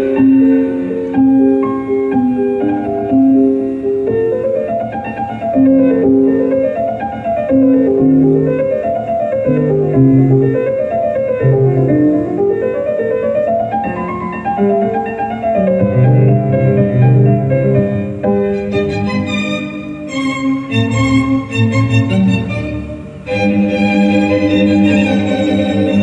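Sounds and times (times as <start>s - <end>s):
instrumental background music: 0.0s - 26.0s.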